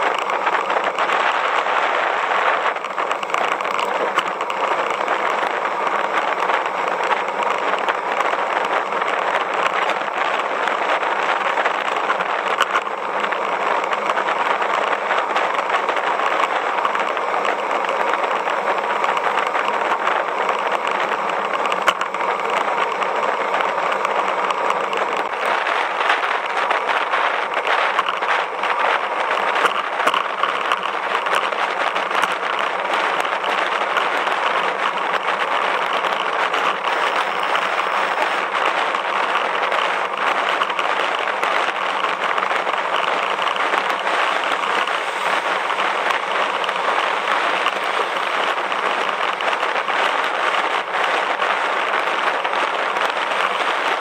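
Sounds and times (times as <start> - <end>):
rushing wind: 0.0 - 54.0
tyre noise on road: 0.0 - 54.0.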